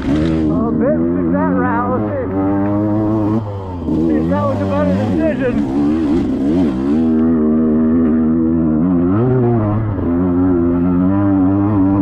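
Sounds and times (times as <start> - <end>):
dirt bike engine under throttle: 0.0 - 12.0.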